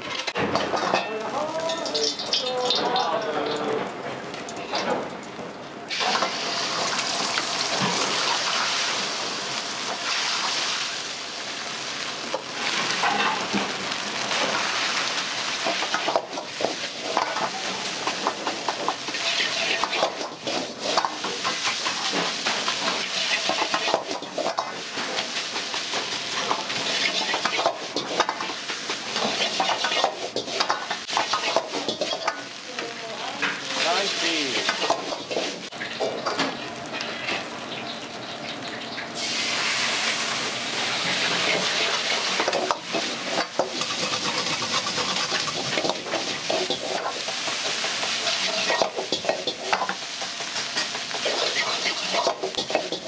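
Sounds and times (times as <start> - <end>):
food sizzling in a wok: 0.0 - 53.0.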